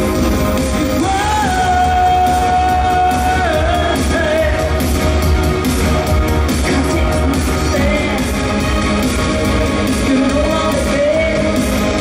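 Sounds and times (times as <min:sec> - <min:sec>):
synth-pop song over a pa: 0:00.0 - 0:12.0.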